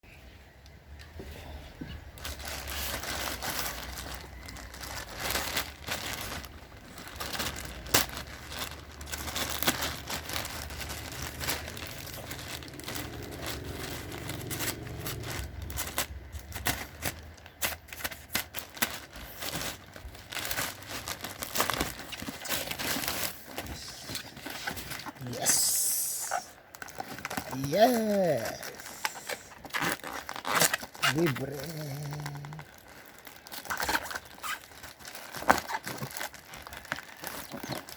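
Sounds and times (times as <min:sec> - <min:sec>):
cardboard packaging handled: 0:01.8 - 0:37.9
crinkling plastic wrap: 0:02.0 - 0:37.9.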